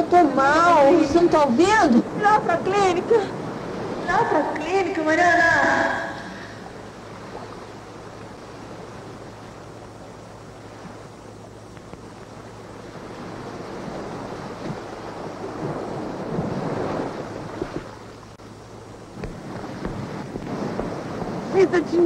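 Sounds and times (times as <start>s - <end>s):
sea waves washing on shore: 0.0s - 22.0s
steady low hum: 0.0s - 22.0s
wind: 0.0s - 22.0s.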